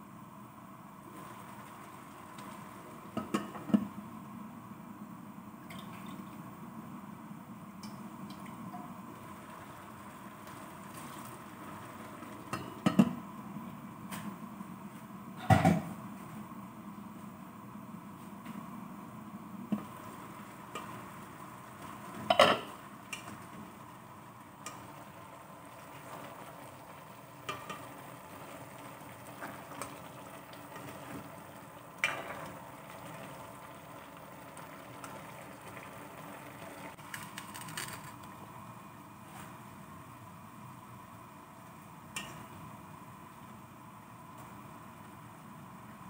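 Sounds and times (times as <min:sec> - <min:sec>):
food cooking with low hiss: 0:00.0 - 0:46.0.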